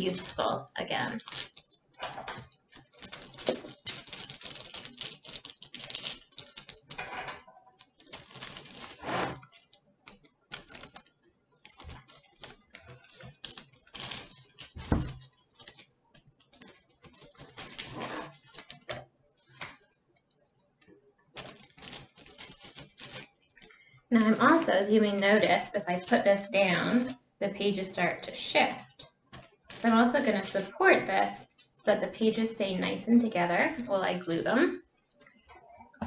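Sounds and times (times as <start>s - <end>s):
paper rustling: 0.0s - 7.0s, 7.8s - 20.0s, 21.4s - 27.2s, 27.8s - 35.5s.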